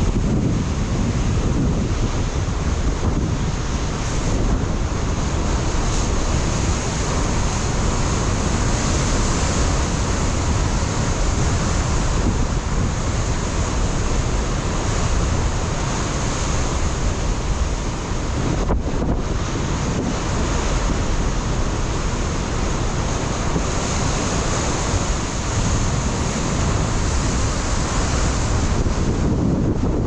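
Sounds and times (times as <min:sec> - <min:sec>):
surf crashing on rocks: 0:00.0 - 0:30.0
wind buffeting microphone: 0:00.0 - 0:30.0.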